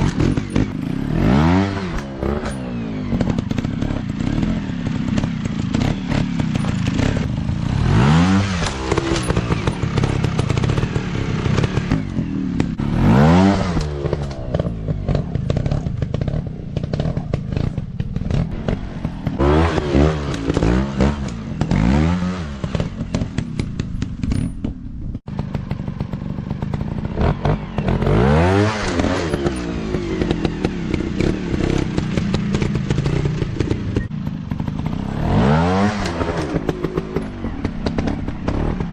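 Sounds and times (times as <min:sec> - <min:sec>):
dirt bike engines revving: 0:00.0 - 0:24.4, 0:25.3 - 0:38.9
clatter and scraping: 0:00.0 - 0:38.9.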